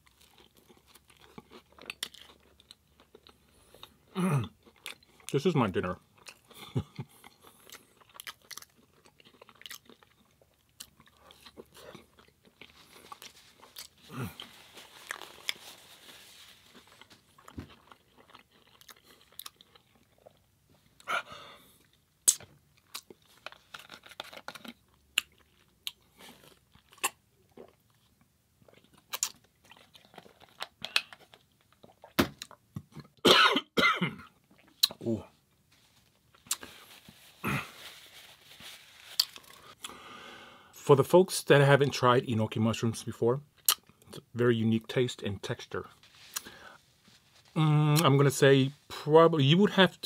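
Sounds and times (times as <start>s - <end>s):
close chewing and crunching: 0.0s - 33.2s, 34.2s - 40.0s, 43.4s - 44.7s, 45.6s - 48.6s.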